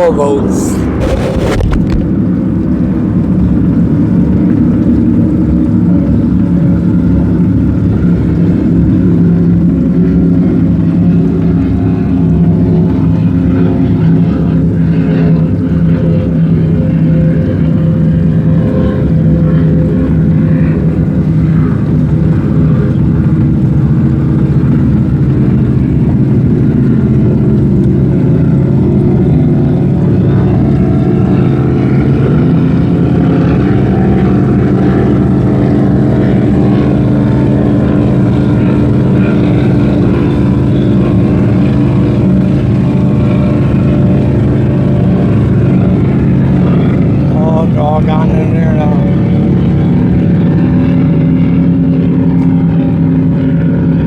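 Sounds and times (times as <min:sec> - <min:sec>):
motorboat engines running: 0:00.0 - 0:54.0.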